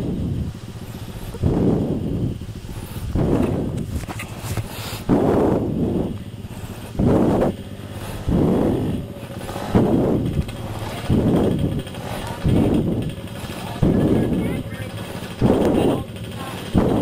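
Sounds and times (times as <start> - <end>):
dirt bike engine running: 0.0 - 17.0
person breathing heavily into microphone: 0.2 - 14.1.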